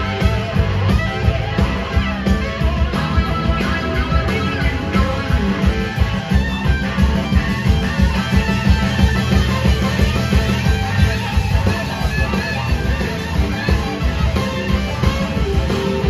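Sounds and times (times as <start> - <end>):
drums: 0.0 - 16.0
electric guitars: 0.0 - 16.0
live rock band: 0.0 - 16.0.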